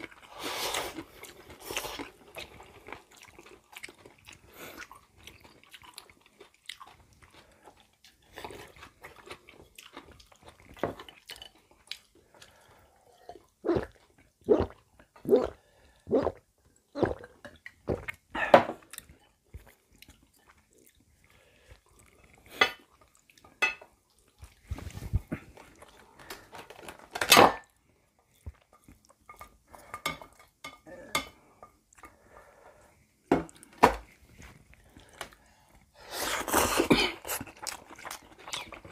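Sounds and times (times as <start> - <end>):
people chewing: 0.0 - 18.2, 18.8 - 27.1, 33.5 - 38.9.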